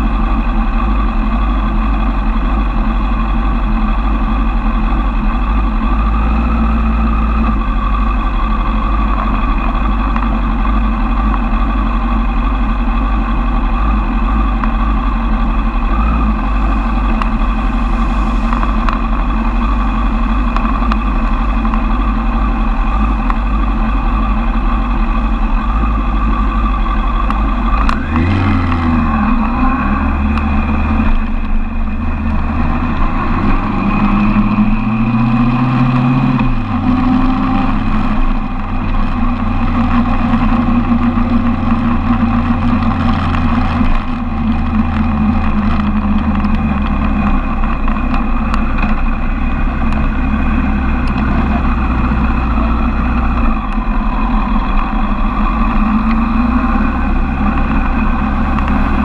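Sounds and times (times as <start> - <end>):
motorcycle engine idling: 0.0 - 35.0, 36.4 - 59.0
motorcycle accelerating through gears: 0.0 - 59.0.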